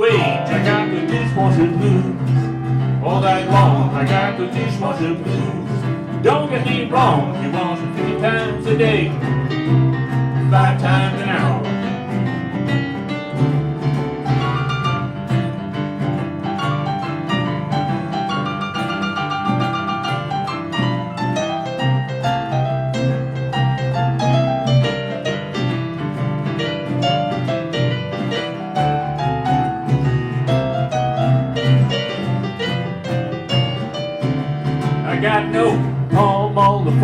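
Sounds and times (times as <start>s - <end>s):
bass and guitar backing: 0.0s - 37.0s
blues piano solo: 0.0s - 37.0s.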